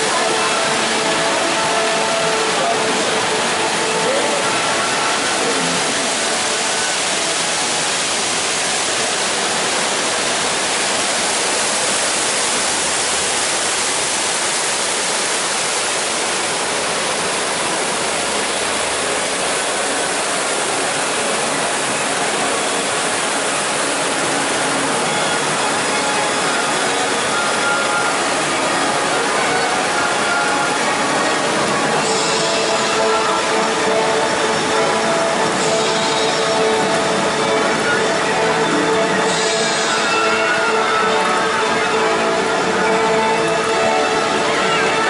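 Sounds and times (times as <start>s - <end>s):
train running noise: 0.0s - 45.0s.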